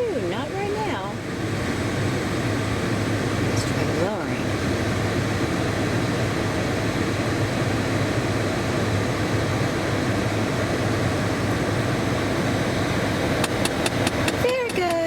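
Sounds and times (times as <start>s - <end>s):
car climate blower rushing: 0.0s - 15.0s.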